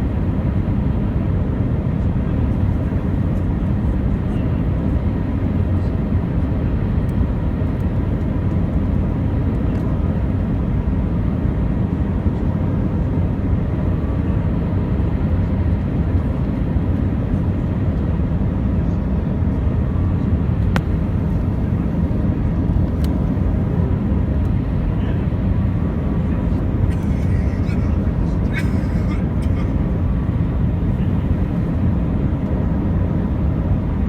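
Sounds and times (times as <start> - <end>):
jet engine low rumble: 0.0 - 34.0.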